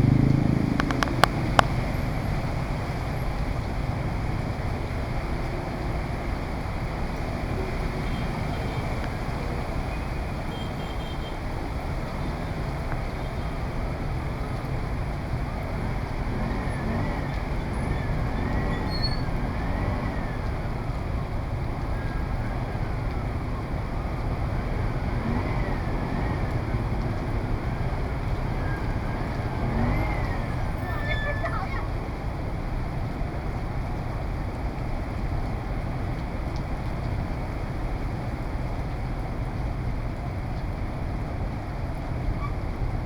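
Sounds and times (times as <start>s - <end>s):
city street traffic: 0.0s - 43.0s.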